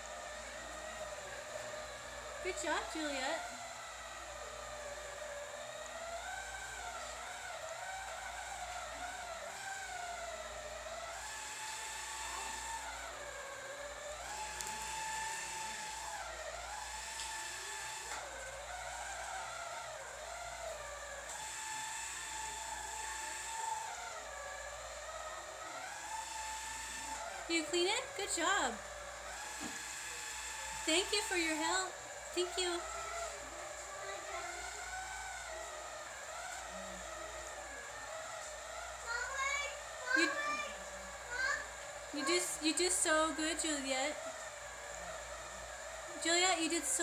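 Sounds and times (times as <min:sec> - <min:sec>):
stick vacuum motor whining: 0:00.0 - 0:47.0.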